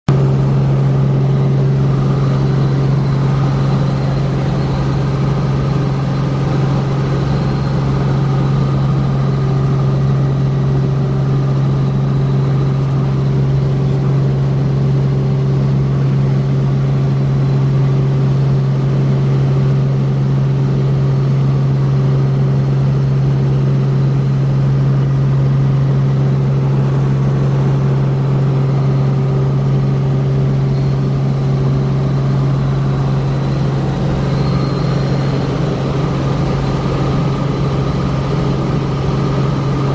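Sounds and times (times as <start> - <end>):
helicopter engine and rotors: 0.1 - 39.9.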